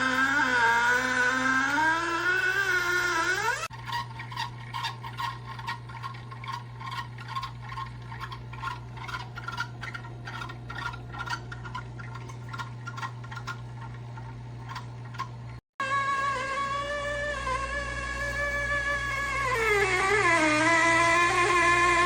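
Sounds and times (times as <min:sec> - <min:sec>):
ice maker motor hum: 0:00.0 - 0:22.0.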